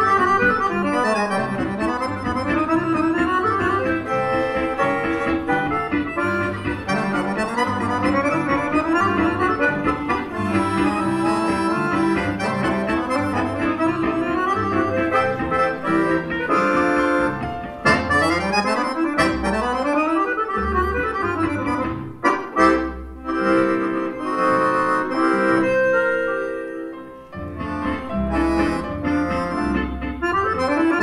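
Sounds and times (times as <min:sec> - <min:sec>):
button accordion playing waltz: 0:00.0 - 0:31.0
violins and double bass: 0:00.0 - 0:31.0.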